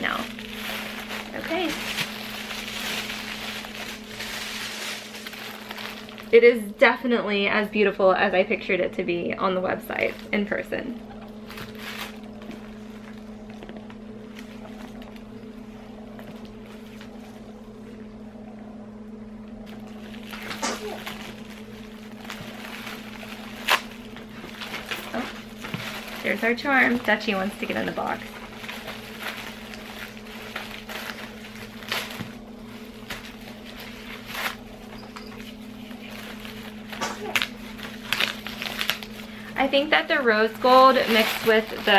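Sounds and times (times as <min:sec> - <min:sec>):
tissue paper rustling: 0:00.0 - 0:06.5, 0:09.8 - 0:17.5, 0:19.7 - 0:41.9
electric motor hum: 0:00.0 - 0:07.2, 0:08.4 - 0:41.9.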